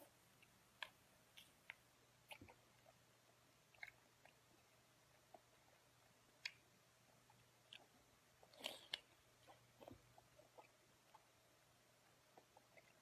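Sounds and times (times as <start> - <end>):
mouth clicks and smacks: 0.0 - 11.4
wet chewing: 0.0 - 13.0.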